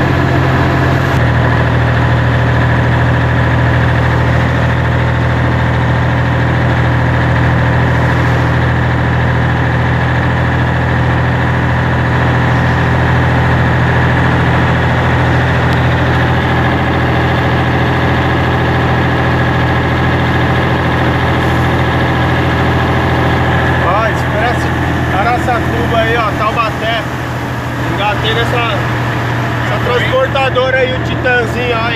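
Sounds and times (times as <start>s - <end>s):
truck diesel engine running: 0.0s - 31.9s.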